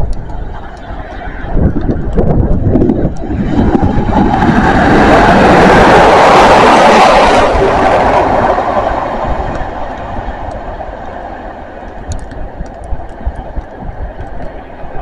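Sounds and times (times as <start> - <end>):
train passing: 0.3 - 15.0.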